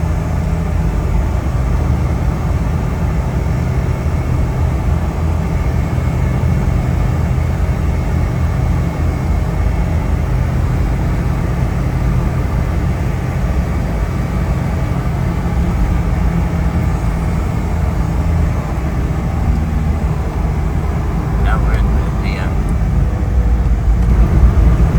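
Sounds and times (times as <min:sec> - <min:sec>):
vehicle engine and road noise: 0:00.0 - 0:24.9.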